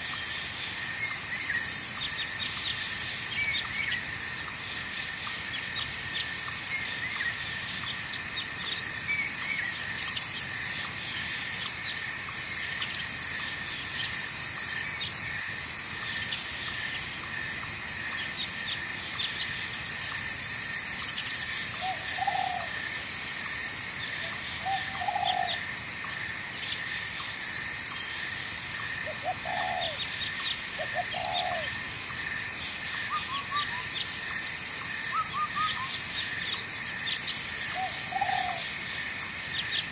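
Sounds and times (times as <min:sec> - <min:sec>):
high pulsing insect trill: 0:00.0 - 0:39.9
insects chorus: 0:00.0 - 0:39.9.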